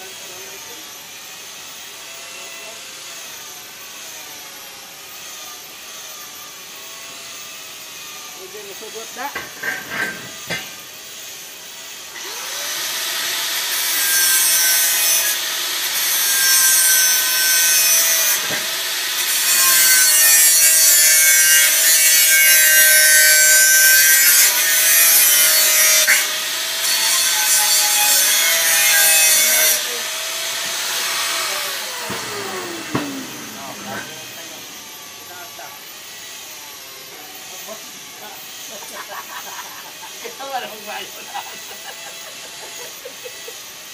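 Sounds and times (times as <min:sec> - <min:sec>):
angle grinder cutting metal: 0:00.0 - 0:43.9.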